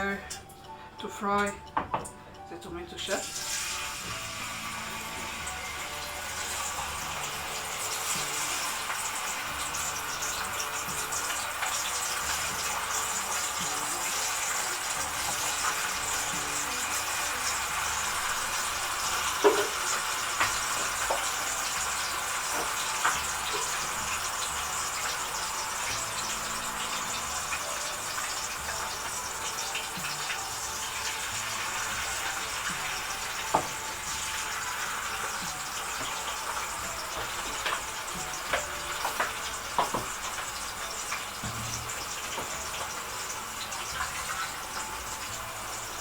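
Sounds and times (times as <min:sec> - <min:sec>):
potatoes frying in hot oil: 0:02.6 - 0:46.0
oil popping: 0:03.3 - 0:46.0.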